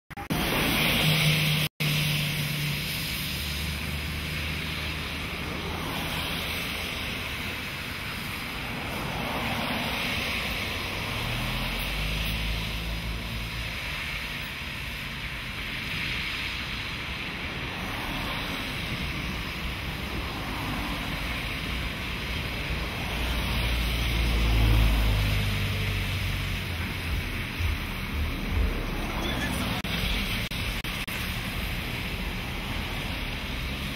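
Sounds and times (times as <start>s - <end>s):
cars driving through water: 0.1s - 33.9s.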